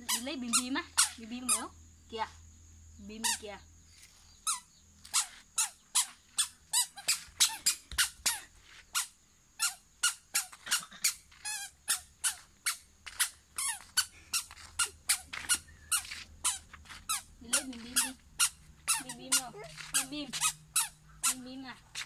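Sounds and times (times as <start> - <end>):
squeaky shoes squeaking: 0.0 - 1.6, 4.4 - 22.0.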